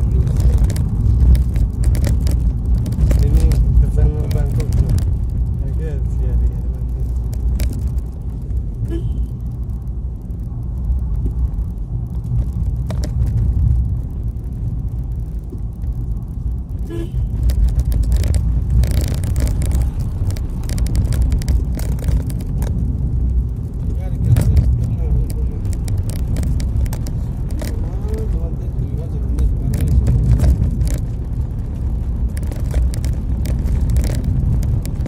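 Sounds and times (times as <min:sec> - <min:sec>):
engine and road rumble in cabin: 0:00.0 - 0:35.0.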